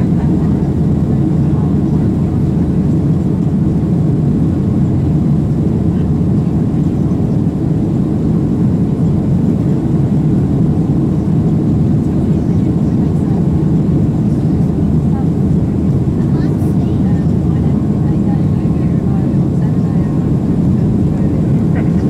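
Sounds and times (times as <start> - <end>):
airplane cabin engine noise: 0.0 - 22.0.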